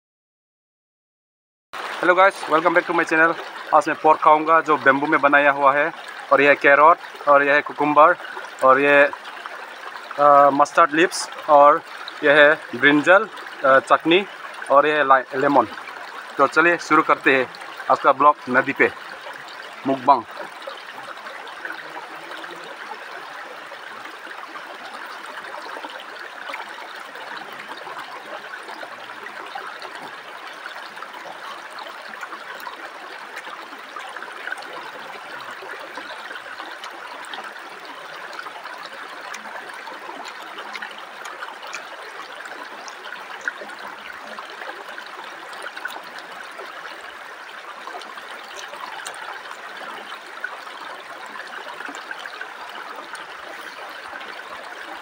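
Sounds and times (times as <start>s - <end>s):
river trickling over rocks: 1.8s - 55.0s.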